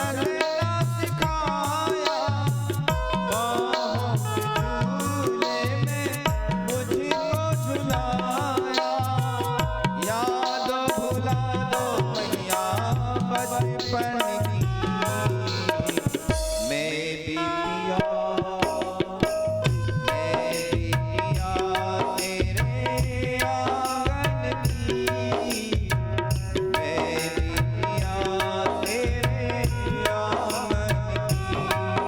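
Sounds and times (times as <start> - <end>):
tabla rhythm: 0.0 - 32.0.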